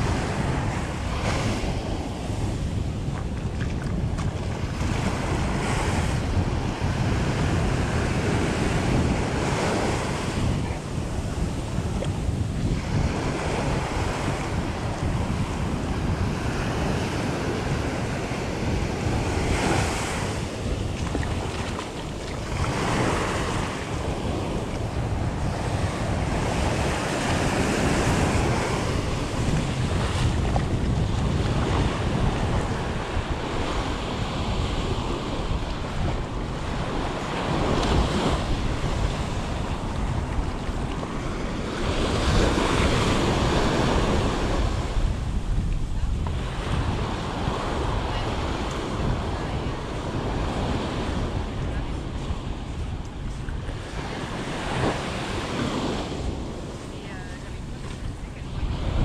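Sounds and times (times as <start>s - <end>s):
waves breaking on a beach: 0.0s - 59.0s
wind rumble on microphone: 0.0s - 59.0s.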